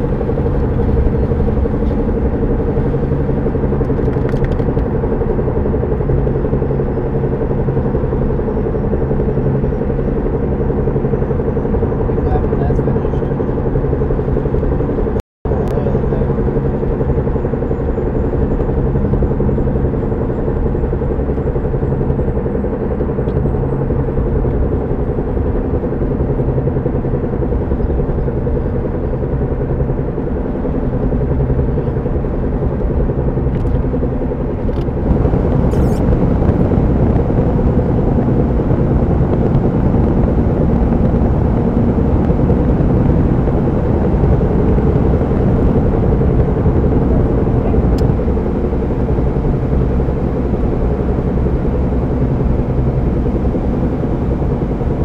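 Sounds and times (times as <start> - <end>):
car wheel droning hum: 0.0 - 55.0.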